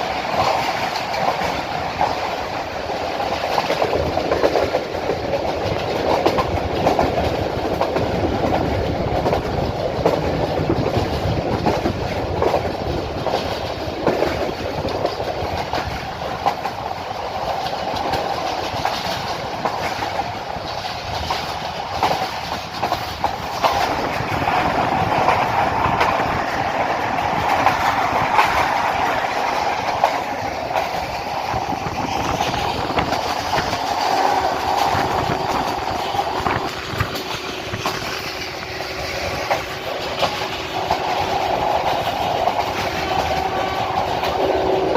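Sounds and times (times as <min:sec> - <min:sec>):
train rumble: 0:00.0 - 0:44.9
wheels clacking over rail joints: 0:00.0 - 0:44.9.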